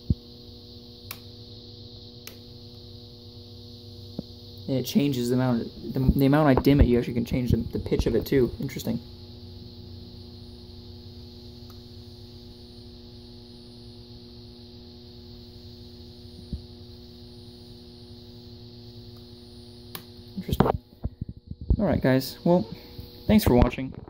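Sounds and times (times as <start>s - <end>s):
electrical ballast humming: 0.0s - 24.0s.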